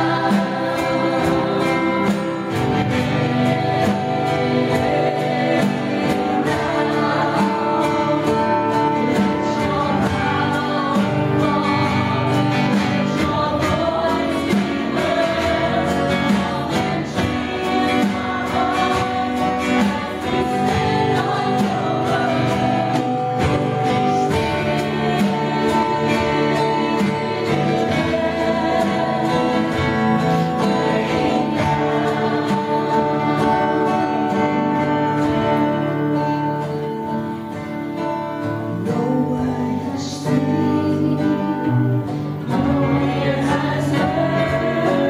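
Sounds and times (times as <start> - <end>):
singers with instrumental accompaniment: 0.0 - 45.0.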